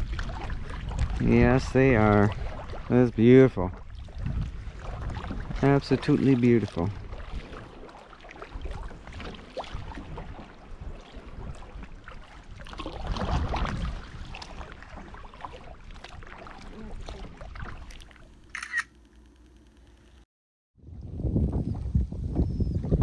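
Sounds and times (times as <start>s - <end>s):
wind rumbling on microphone: 0.0s - 18.0s, 20.8s - 23.0s
water splashing against kayak: 0.0s - 18.5s.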